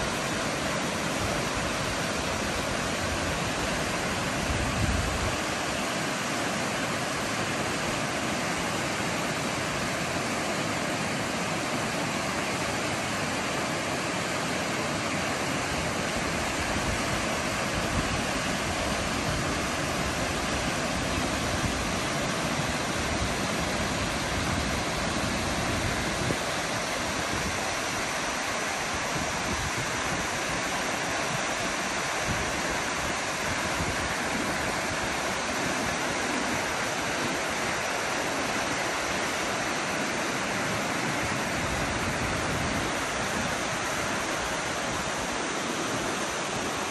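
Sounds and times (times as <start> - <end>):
river rushing over rocks: 0.0 - 46.9.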